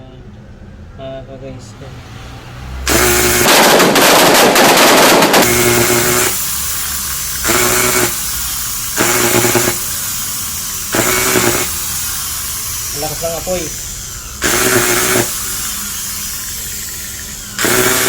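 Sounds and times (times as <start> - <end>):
angle grinder motor running: 2.2 - 18.0
motor crackling and popping: 2.8 - 18.0.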